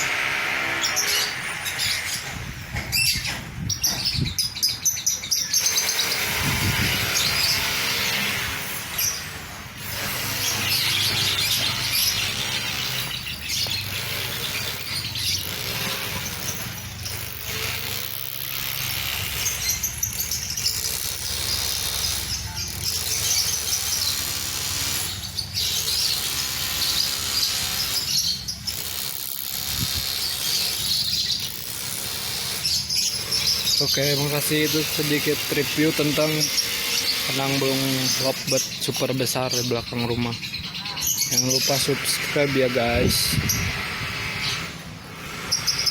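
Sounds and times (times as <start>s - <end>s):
lovebirds chattering and squealing: 0.0s - 45.9s.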